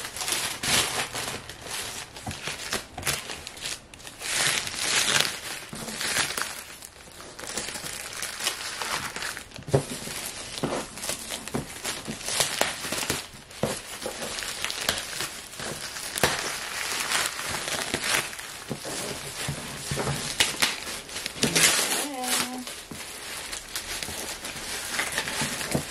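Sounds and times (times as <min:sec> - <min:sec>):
plastic film crinkling: 0:00.0 - 0:25.9.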